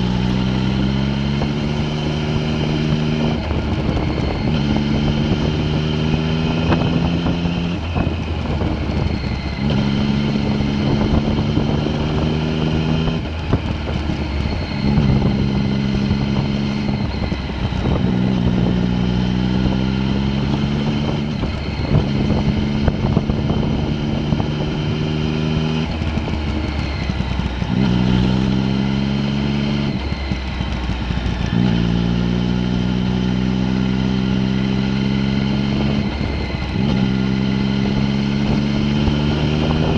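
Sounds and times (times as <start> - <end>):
low road rumble: 0.0 - 39.9
vehicle engine pulling under load: 0.0 - 39.9.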